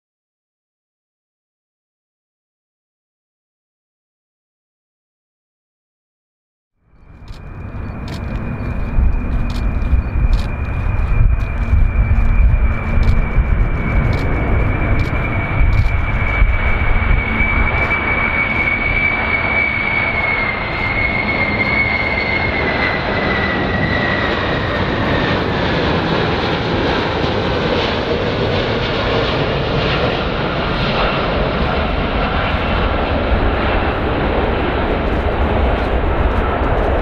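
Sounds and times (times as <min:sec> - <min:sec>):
jet airliner engines rumbling: 0:06.8 - 0:37.0
high jet whine: 0:07.0 - 0:37.0.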